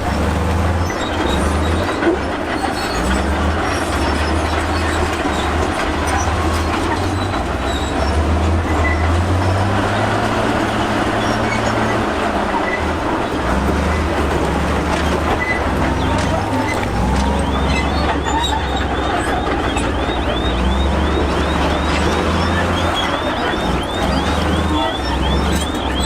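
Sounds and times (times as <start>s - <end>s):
bulldozer diesel engine: 0.0s - 26.0s
steel tracks clanking and squealing: 0.0s - 26.0s.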